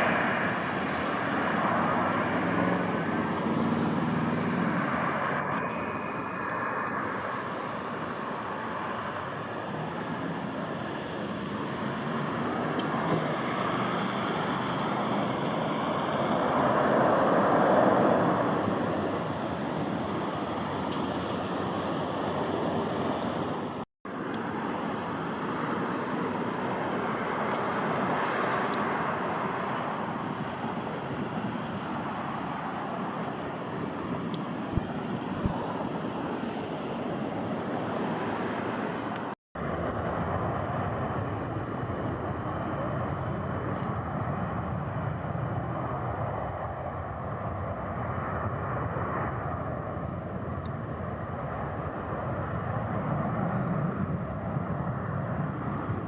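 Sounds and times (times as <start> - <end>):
distant jet engines rushing: 0.0 - 56.0
wind on microphone: 0.0 - 56.0.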